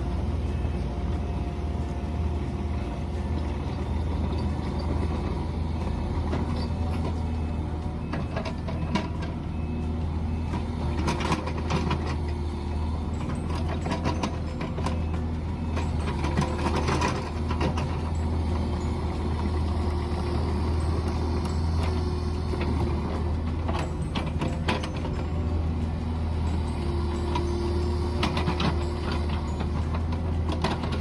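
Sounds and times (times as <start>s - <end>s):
excavator bucket clanking and scraping: 0.0s - 31.0s
excavator diesel engine running: 0.0s - 31.0s.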